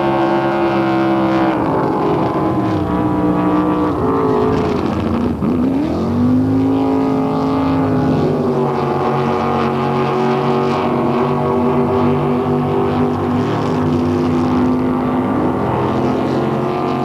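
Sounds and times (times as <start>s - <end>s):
racing boat engines at high revs: 0.0s - 17.0s.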